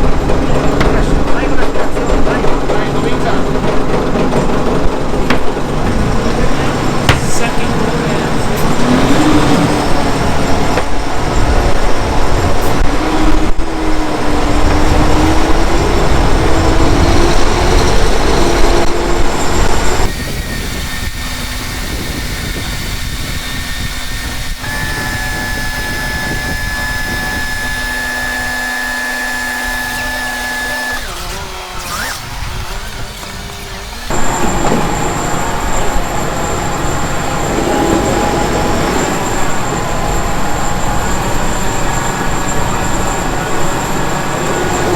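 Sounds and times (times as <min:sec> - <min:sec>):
steady machine hum: 0:00.0 - 0:44.9
loud motor wavering hum: 0:04.2 - 0:44.9
thin high whine: 0:06.3 - 0:44.9.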